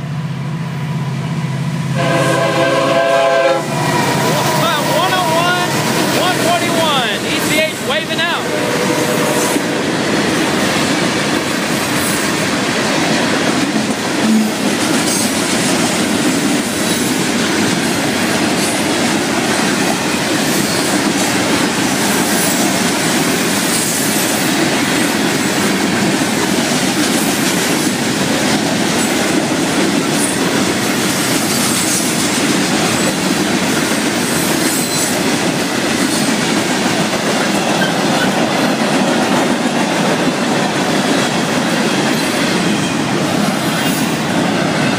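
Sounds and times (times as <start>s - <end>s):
steel wheels rolling on rail: 0.2s - 44.9s.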